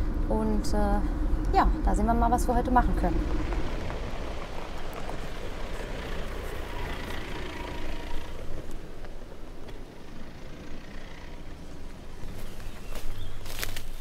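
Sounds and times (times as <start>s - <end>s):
van driving past: 0.0s - 13.8s
tyres rolling on grass: 2.7s - 14.0s.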